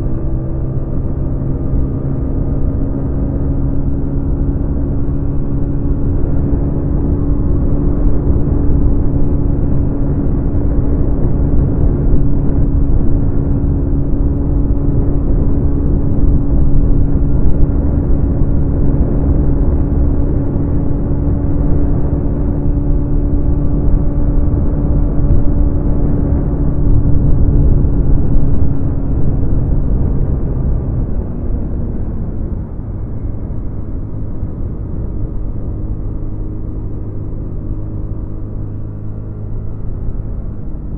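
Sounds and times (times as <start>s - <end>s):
road rumble: 0.0s - 40.9s
scooter engine humming: 0.0s - 40.9s.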